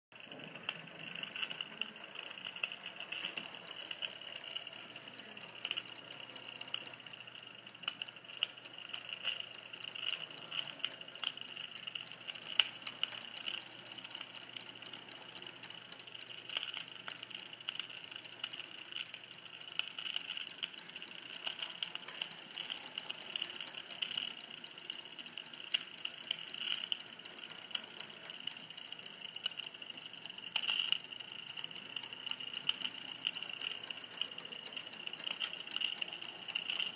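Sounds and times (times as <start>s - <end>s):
model train motor whine: 0.2s - 36.9s.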